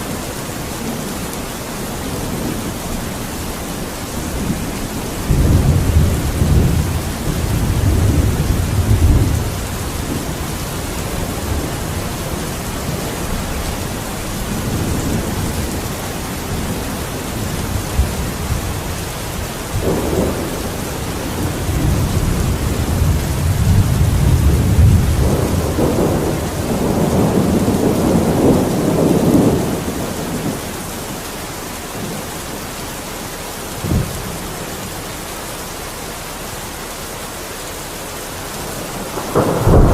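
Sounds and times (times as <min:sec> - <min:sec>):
thunder rumbling: 0:00.0 - 0:31.2, 0:32.0 - 0:35.0, 0:38.3 - 0:39.9
steady rain: 0:00.0 - 0:39.9.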